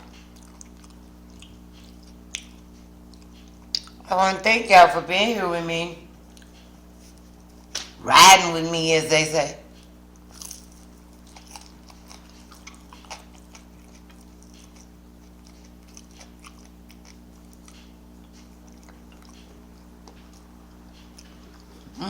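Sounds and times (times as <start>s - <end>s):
person chewing food: 0.0s - 4.1s, 6.2s - 8.0s, 9.7s - 22.0s
low electrical hum: 0.0s - 22.0s.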